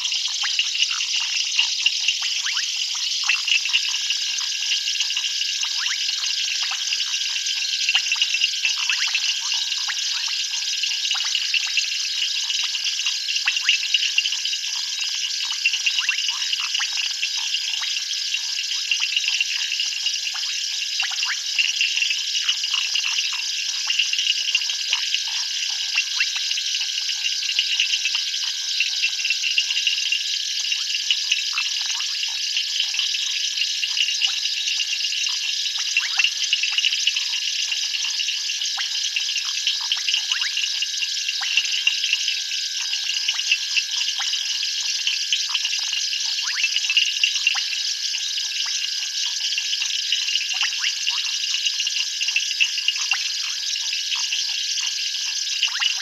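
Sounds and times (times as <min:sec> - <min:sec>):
frogs clicking and plinking: 0:00.0 - 0:56.0
insects trilling: 0:00.0 - 0:56.0.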